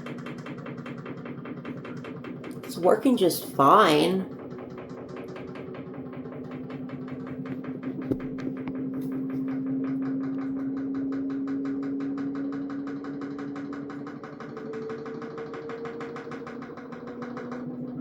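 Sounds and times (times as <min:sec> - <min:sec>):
fast even knocking: 0:00.0 - 0:18.0
washing machine motor hum: 0:00.0 - 0:18.0.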